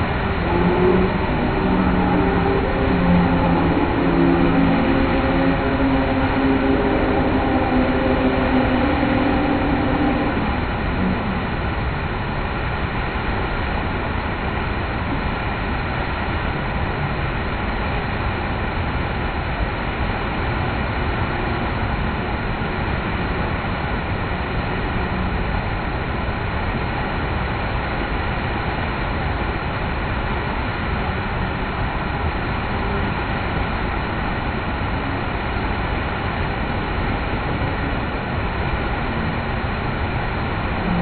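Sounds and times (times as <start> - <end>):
roar of whitewater river wave: 0.0 - 41.0.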